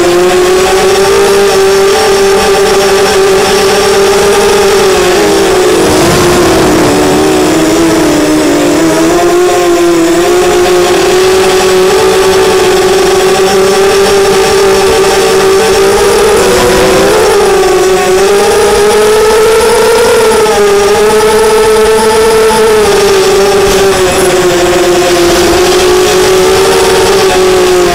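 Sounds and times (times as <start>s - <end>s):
quadcopter motors whining: 0.0s - 27.9s.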